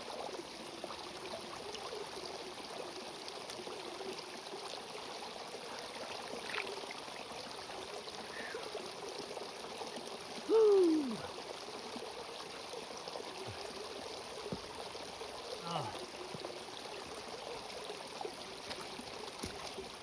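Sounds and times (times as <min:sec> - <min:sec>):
stream water running: 0:00.0 - 0:20.0.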